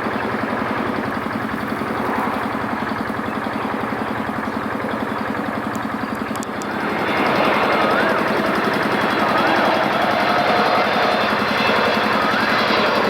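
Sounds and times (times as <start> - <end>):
engine throbbing: 0.0 - 13.0.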